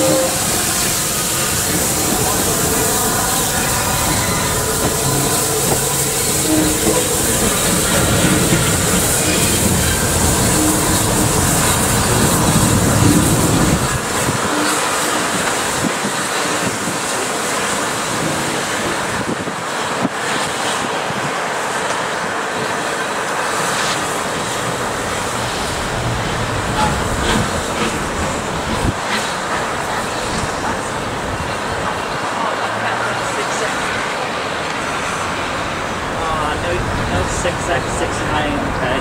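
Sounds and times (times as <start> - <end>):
train rolling on track: 0.0 - 39.0.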